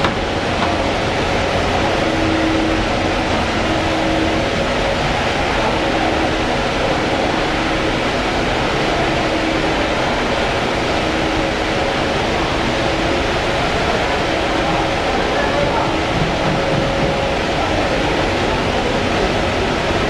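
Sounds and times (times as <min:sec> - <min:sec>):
machine running: 0:00.0 - 0:20.0.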